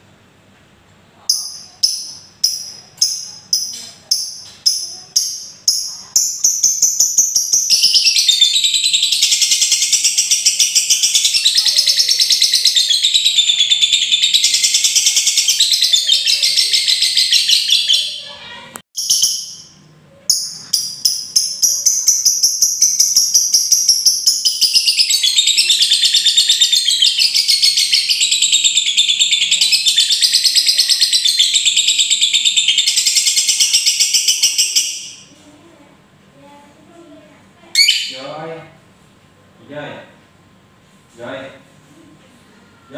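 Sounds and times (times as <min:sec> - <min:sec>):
lovebird chattering trill: 0:01.3 - 0:35.3, 0:37.8 - 0:38.4.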